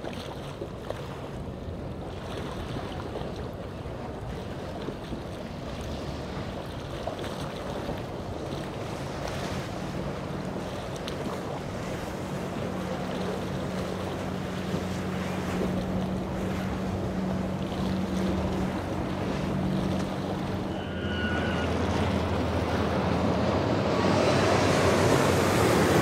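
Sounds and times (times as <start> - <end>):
boat engines droning: 0.0 - 26.0
waves rushing: 0.0 - 26.0.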